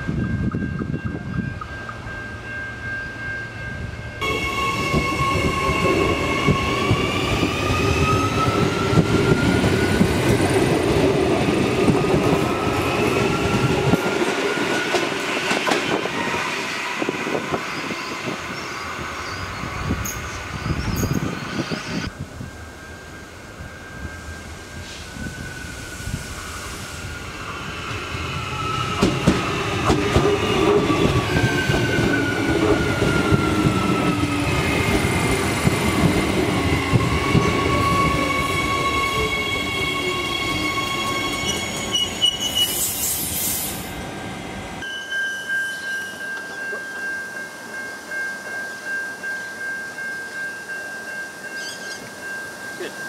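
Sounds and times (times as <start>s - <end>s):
steady high tone from standing train: 0.0s - 53.0s.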